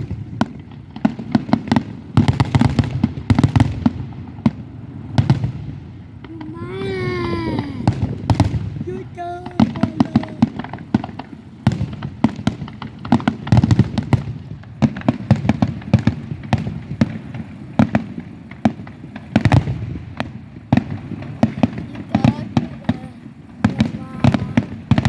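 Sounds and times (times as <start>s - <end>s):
aerial fireworks bursting: 0.0s - 25.0s.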